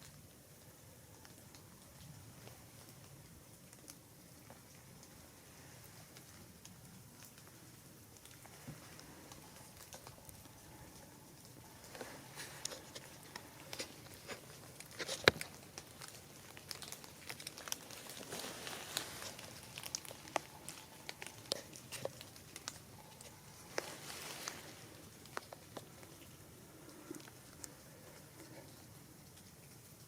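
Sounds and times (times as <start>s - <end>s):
light patter and rustling: 0.0s - 30.0s
small ticks: 0.0s - 30.0s.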